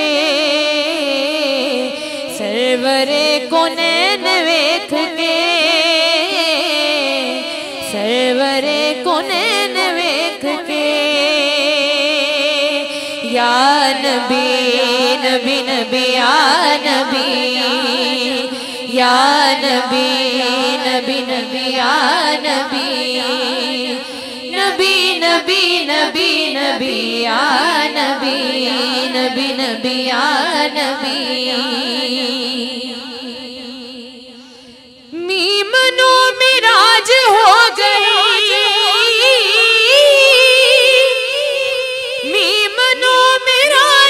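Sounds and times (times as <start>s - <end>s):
woman singing wordlessly: 0.0s - 34.2s, 35.1s - 44.0s.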